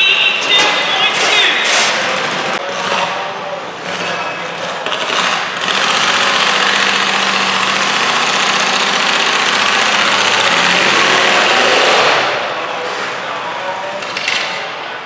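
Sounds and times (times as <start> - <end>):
tractor engine revving: 0.0 - 14.1.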